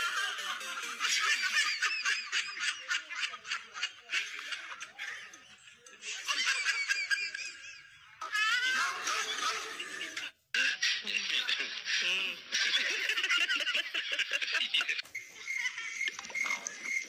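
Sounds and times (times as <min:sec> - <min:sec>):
high-pitched laughter: 0:00.0 - 0:16.8.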